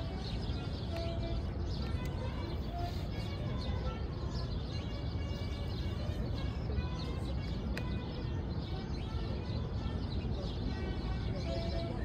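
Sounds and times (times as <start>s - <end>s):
low city hum: 0.0s - 12.0s
small birds chirping: 0.0s - 12.0s.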